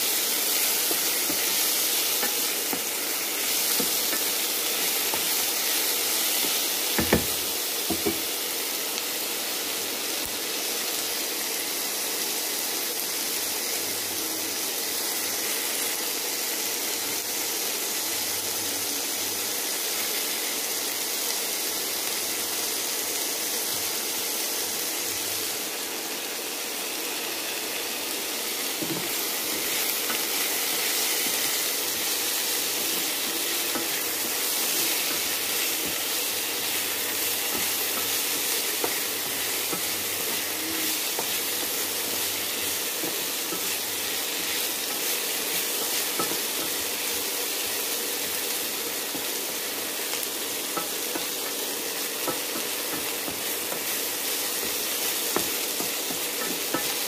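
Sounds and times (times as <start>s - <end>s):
vegetables sizzling in a wok: 0.0s - 57.0s.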